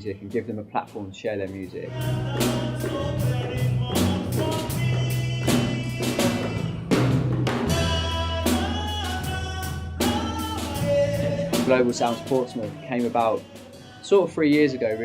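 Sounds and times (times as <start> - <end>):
steady drum beat: 0.0 - 15.0
held bass notes: 1.5 - 15.0.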